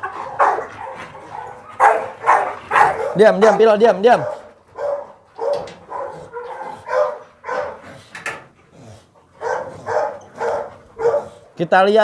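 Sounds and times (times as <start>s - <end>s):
dogs barking: 0.0s - 8.1s, 9.2s - 11.6s.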